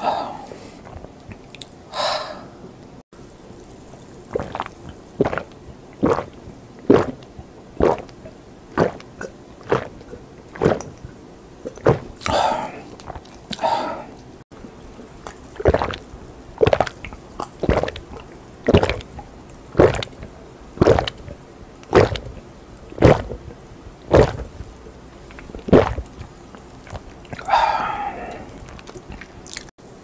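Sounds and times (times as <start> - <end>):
person gulping swallows: 0.0 - 1.7, 4.2 - 14.3, 15.2 - 29.7.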